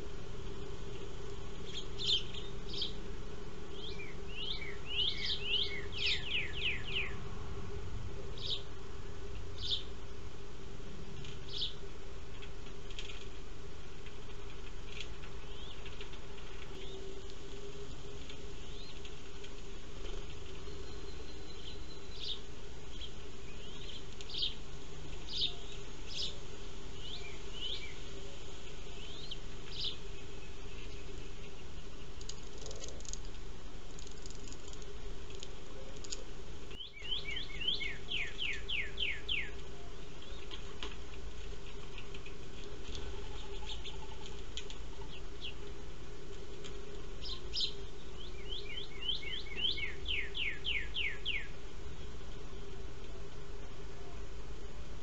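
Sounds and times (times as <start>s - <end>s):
steady low hum: 0.0s - 55.0s
small birds chirping: 0.5s - 7.4s, 8.2s - 10.1s, 11.0s - 55.0s.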